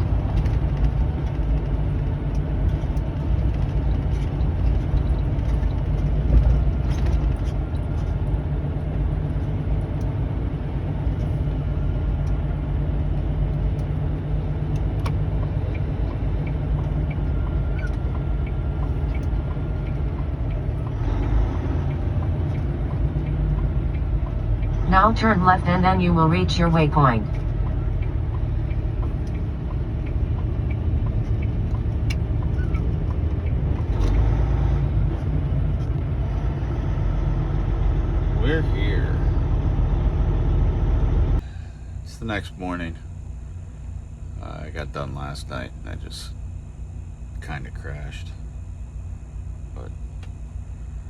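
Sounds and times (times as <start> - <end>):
diesel engine drone: 0.0 - 51.0
road noise: 0.0 - 51.0.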